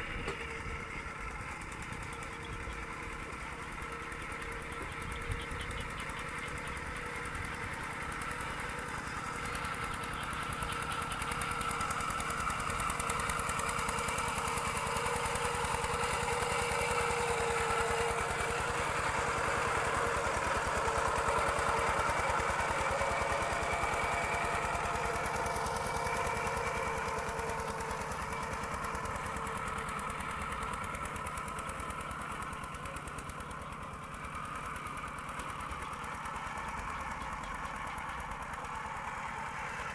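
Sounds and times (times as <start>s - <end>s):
diesel engine knocking under load: 0.1s - 39.9s.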